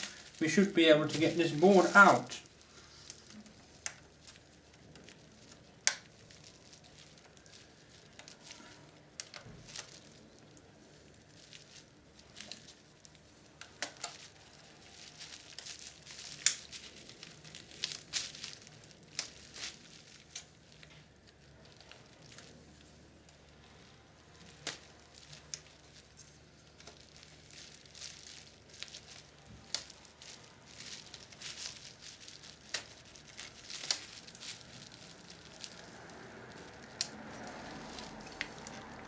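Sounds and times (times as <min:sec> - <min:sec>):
faint rustling: 0:00.0 - 0:39.0.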